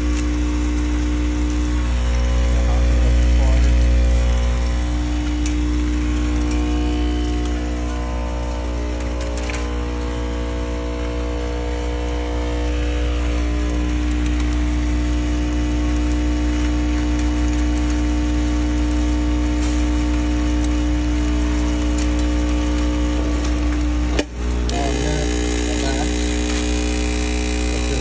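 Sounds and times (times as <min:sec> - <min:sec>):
machine motors humming: 0:00.0 - 0:28.0.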